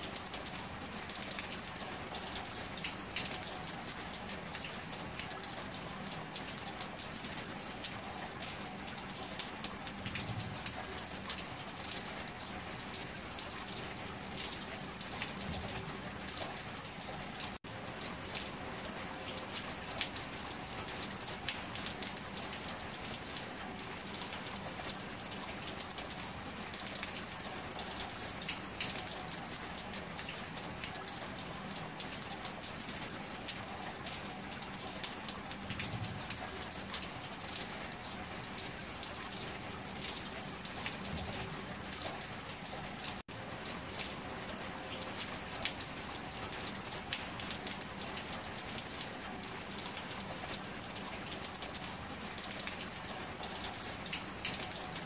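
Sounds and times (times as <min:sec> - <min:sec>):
heavy rain on stone paving: 0:00.0 - 0:55.0.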